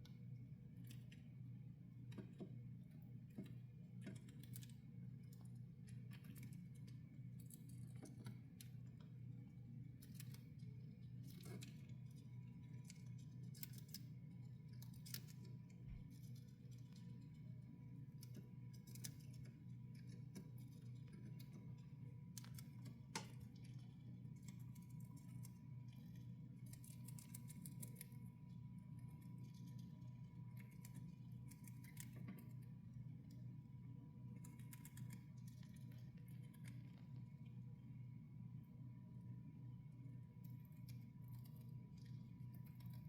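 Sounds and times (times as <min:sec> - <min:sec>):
hamster crunching leaves: 0:03.1 - 0:38.1.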